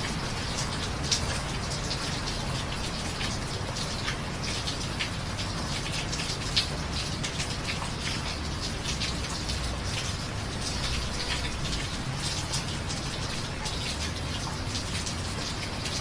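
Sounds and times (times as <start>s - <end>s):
rain hiss: 0.0s - 16.0s
raindrops tapping: 0.0s - 16.0s.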